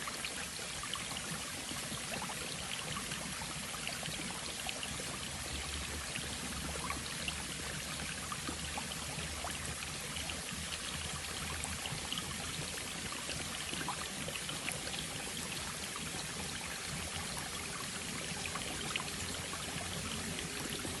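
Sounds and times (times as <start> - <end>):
stream running over stones: 0.0 - 21.0.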